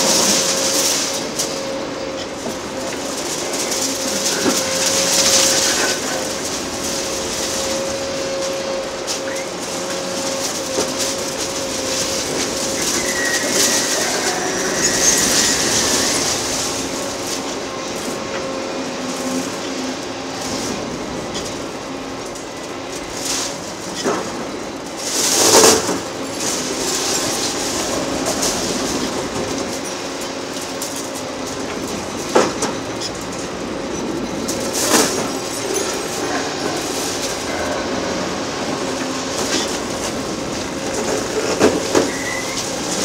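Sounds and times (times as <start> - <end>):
concrete grinding and clattering: 0.0 - 17.5, 25.0 - 43.0
excavator diesel engine under load: 0.0 - 43.0.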